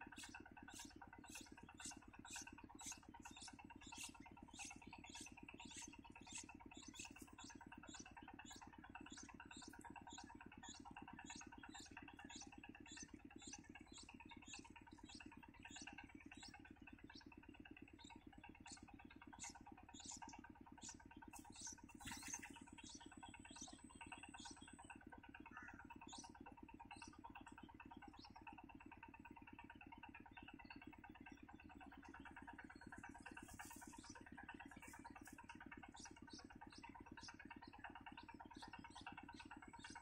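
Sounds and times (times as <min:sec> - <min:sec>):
low pulsing hum: 0:00.0 - 0:40.0
nestlings chirping: 0:00.1 - 0:29.4, 0:30.3 - 0:40.0.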